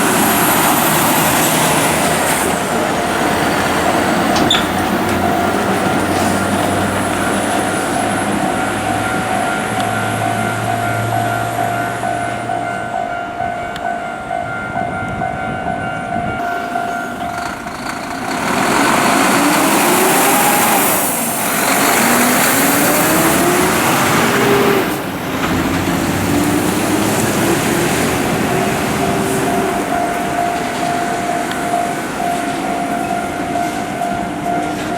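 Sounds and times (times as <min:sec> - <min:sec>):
truck passing: 0:00.0 - 0:13.0, 0:16.4 - 0:34.9
crossing alarm tone: 0:00.0 - 0:34.9.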